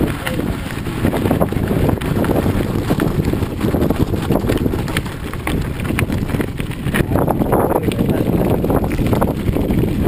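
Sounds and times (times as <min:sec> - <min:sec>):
low rumble: 0:00.0 - 0:10.0
tyres crunching on gravel: 0:00.0 - 0:10.0.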